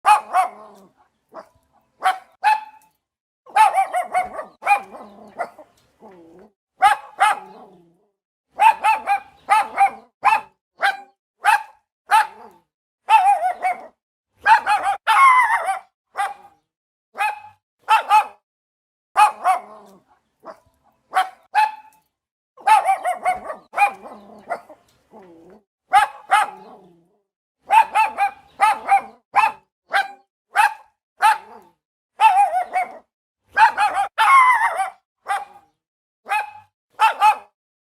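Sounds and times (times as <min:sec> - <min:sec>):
dog barking and yelping: 0:00.0 - 0:02.9, 0:03.5 - 0:18.4, 0:19.2 - 0:22.0, 0:22.6 - 0:37.6.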